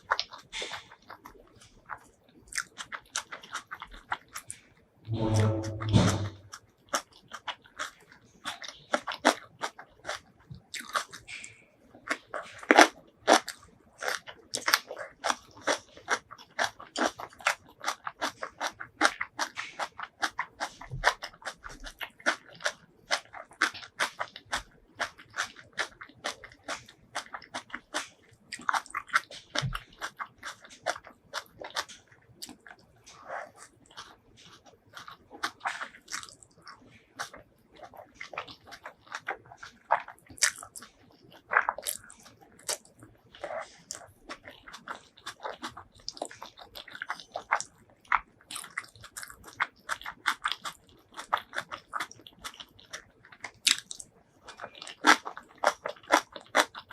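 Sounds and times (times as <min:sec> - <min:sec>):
crunchy chewing: 0:00.0 - 0:56.9.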